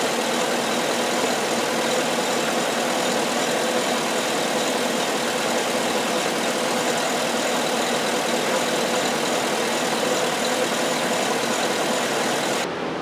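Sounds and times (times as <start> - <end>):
steady mechanical running noise: 0.0 - 12.8.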